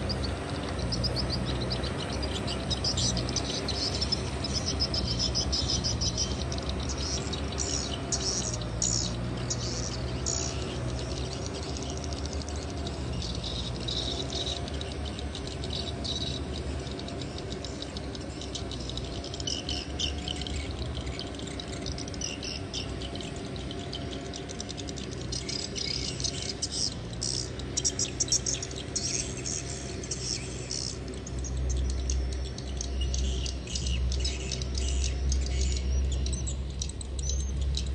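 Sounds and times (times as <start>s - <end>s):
tractor diesel engine running: 0.0s - 37.9s
high chirping: 0.1s - 37.9s.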